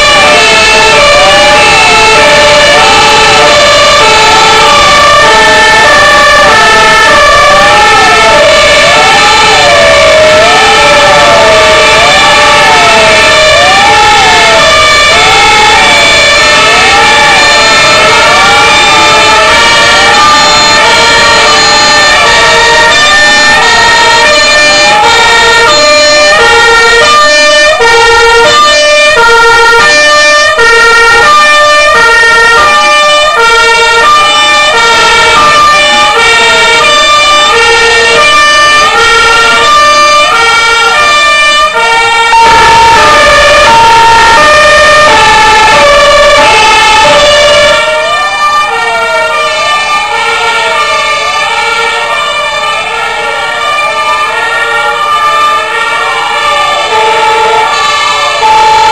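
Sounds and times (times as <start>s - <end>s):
siren sweeping up and down: 0.0s - 58.9s
two-tone fire engine horns: 0.0s - 58.9s.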